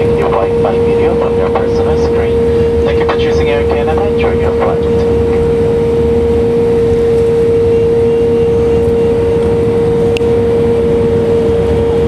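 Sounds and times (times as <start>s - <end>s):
jet engine rush in cabin: 0.0s - 12.0s.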